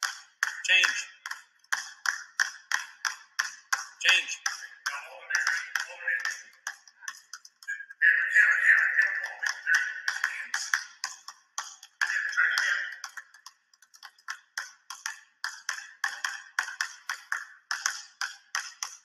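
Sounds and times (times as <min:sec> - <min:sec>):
basketballs bouncing on wooden floor: 0:00.0 - 0:19.0.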